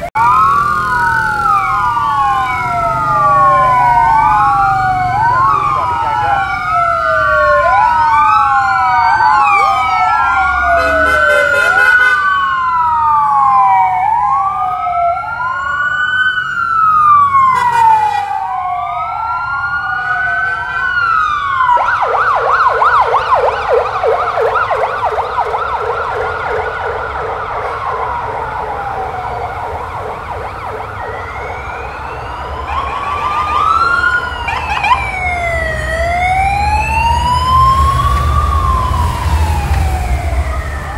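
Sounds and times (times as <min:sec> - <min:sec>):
police sirens wailing: 0:00.0 - 0:40.9
siren warbling yelp: 0:00.0 - 0:40.9.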